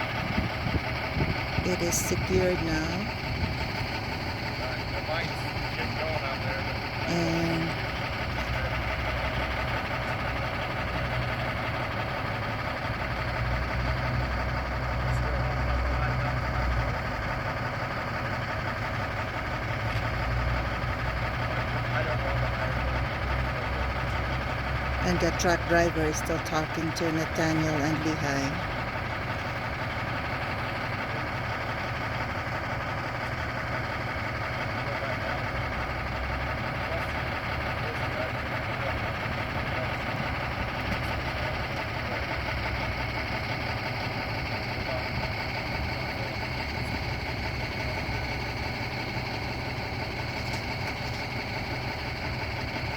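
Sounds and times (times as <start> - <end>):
heavy engine idling: 0.0 - 52.9.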